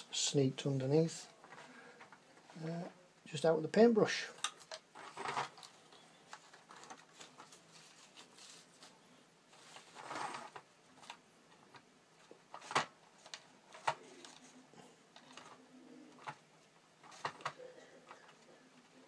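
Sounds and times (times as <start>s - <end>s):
masking material rustling: 0.9s - 19.0s.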